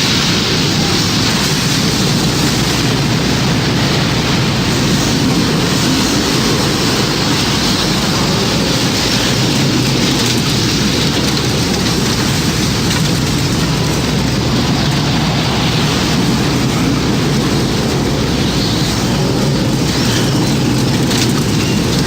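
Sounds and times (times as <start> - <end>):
heavy rain: 0.0 - 22.0
storm wind: 0.0 - 22.0.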